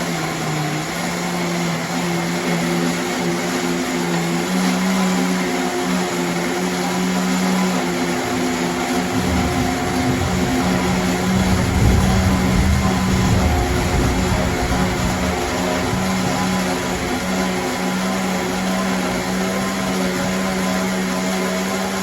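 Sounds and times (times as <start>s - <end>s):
blender motor hum: 0.0s - 22.0s.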